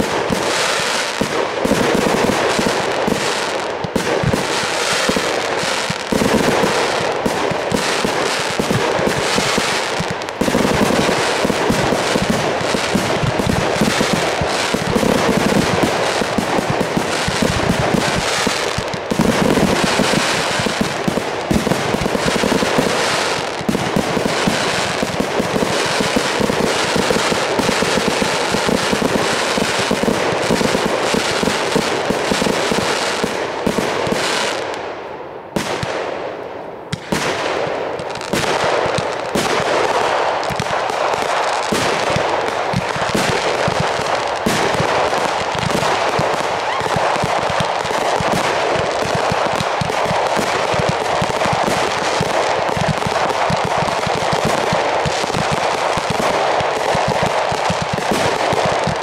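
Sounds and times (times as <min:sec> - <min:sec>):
fireworks barrage: 0:00.0 - 0:59.0.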